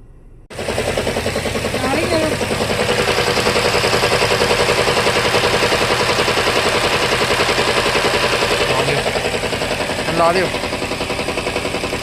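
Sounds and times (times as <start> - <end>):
car engine idling and misfiring: 0.5 - 12.0.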